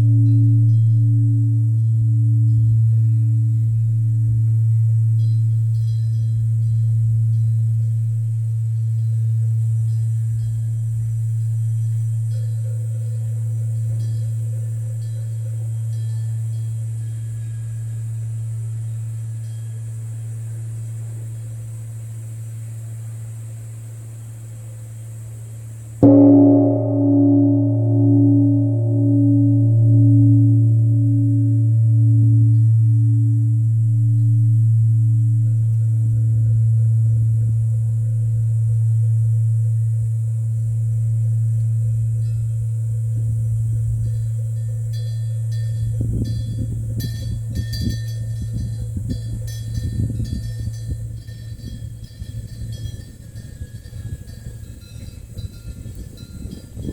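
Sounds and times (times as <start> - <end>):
bronze temple bell hum: 0.0 - 56.9.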